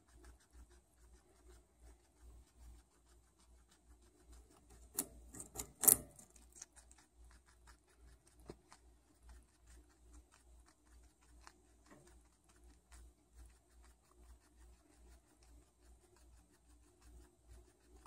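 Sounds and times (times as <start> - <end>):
guinea pig chewing carrot: 0.0 - 18.0.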